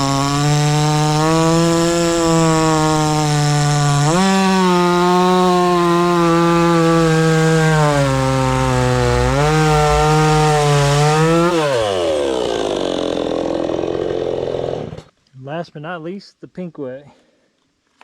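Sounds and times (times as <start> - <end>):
chainsaw running at high revs: 0.0 - 15.1.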